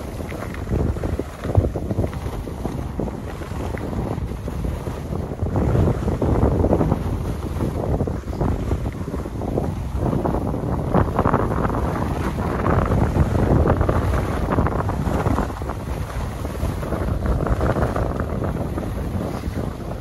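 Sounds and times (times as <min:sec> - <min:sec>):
skis scraping over snow: 0:00.0 - 0:20.0
wind rushing over microphone: 0:00.0 - 0:20.0.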